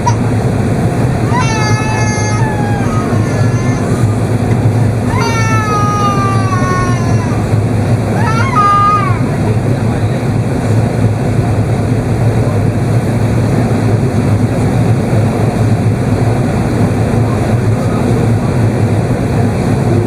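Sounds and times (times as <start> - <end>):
airliner cabin engine and airflow noise: 0.0 - 20.0.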